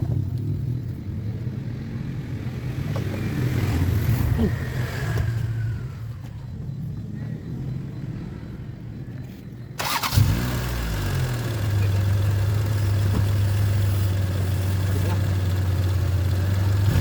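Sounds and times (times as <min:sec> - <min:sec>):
car engine starting and idling: 0:02.8 - 0:17.0.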